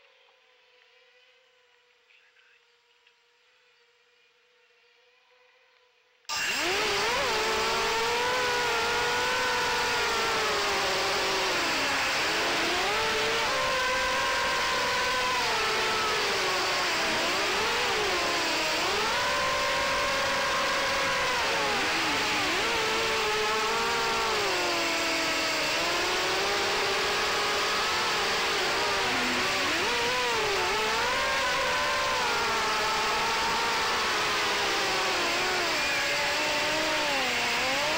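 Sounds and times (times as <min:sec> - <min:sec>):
drone motors whining: 0:06.3 - 0:37.9.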